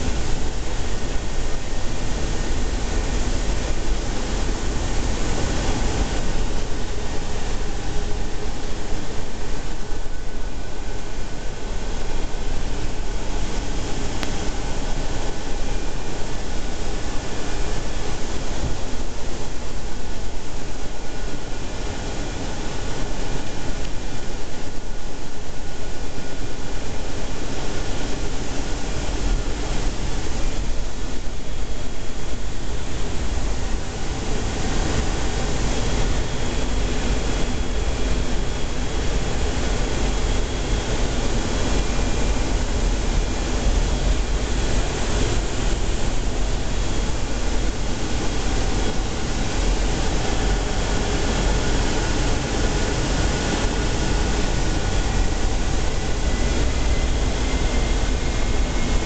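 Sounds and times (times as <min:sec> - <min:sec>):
air rushing over cockpit: 0:00.0 - 0:59.0
jet engines droning: 0:00.0 - 0:59.0.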